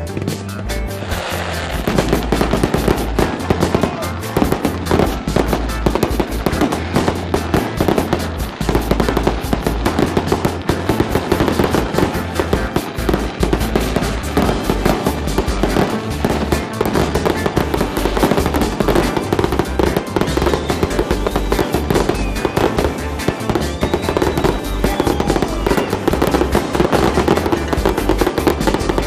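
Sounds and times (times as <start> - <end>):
fireworks crackling and popping: 0.0 - 29.0.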